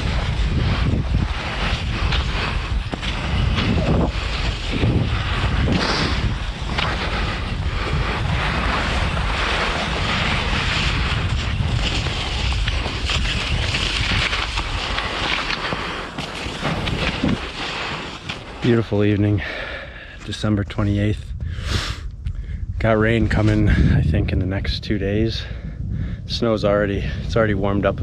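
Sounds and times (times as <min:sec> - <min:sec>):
skis gliding on snow: 0:00.0 - 0:22.0, 0:22.9 - 0:24.9
wind buffeting microphone: 0:00.0 - 0:28.0.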